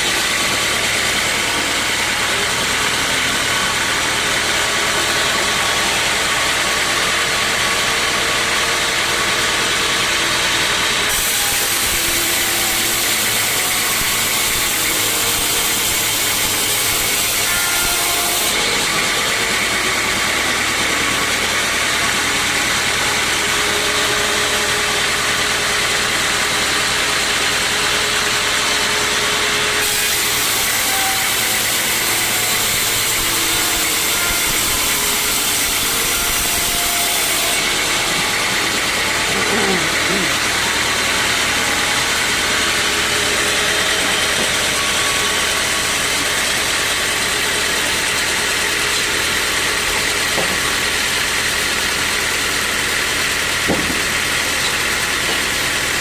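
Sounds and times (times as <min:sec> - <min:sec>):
motor drone: 0:00.0 - 0:56.0
sawmill saw hissing: 0:00.0 - 0:56.0.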